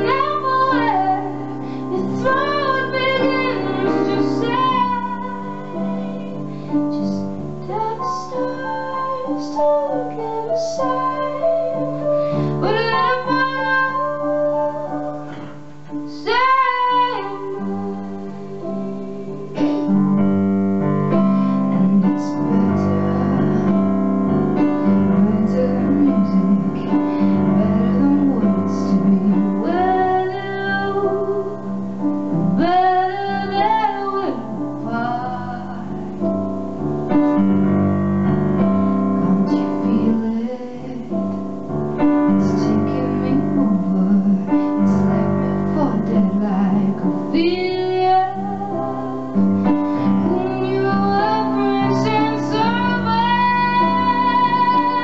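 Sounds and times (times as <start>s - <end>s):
woman singing: 0.0s - 20.5s, 21.1s - 37.8s, 39.0s - 55.0s
piano chords: 0.0s - 55.0s.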